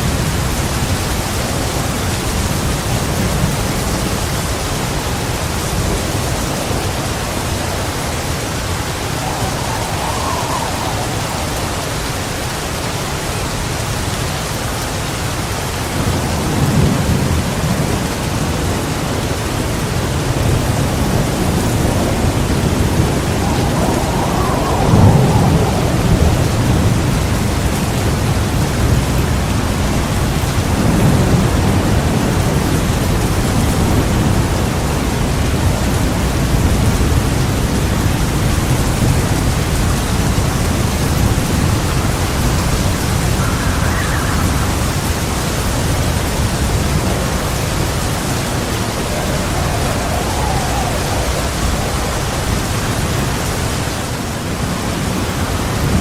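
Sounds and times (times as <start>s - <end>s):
heavy rain pouring: 0.0s - 56.0s
thunder rumbling: 0.1s - 14.0s, 15.9s - 56.0s.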